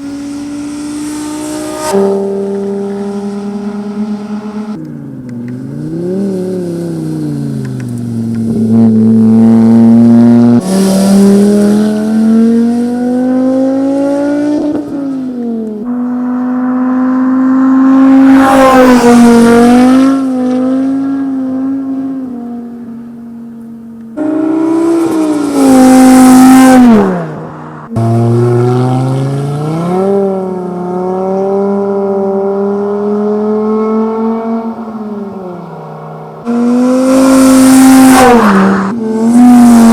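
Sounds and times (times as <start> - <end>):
car engine revving and accelerating: 0.0 - 22.8, 24.1 - 39.9.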